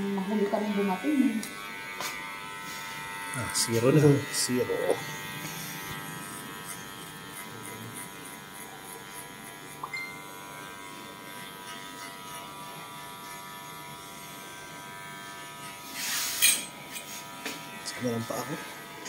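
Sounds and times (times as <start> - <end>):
electric hair clipper buzzing: 0.0 - 19.0.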